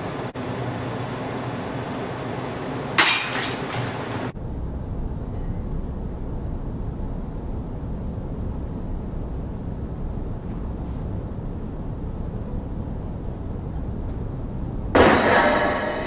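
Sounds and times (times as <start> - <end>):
low rumbling room noise: 0.0 - 16.0.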